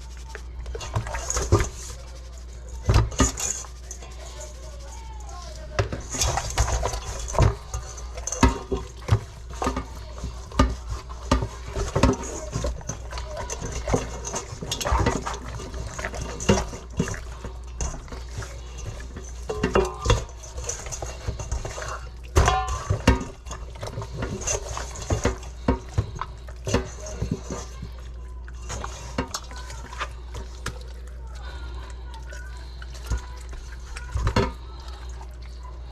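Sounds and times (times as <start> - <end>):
liquid sloshing: 0.0 - 35.9
dishes clinking and knocking: 0.6 - 2.0, 2.8 - 3.9, 5.7 - 30.9, 33.0 - 34.8.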